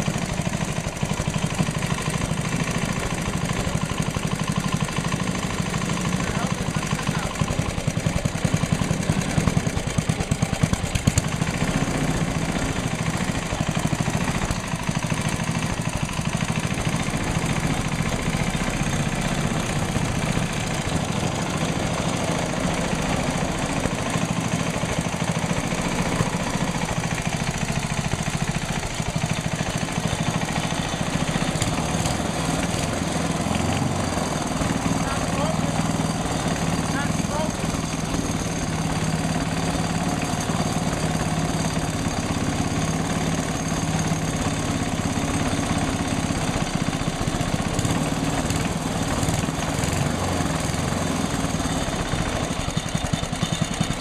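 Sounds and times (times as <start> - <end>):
single-cylinder engine running: 0.0 - 54.0.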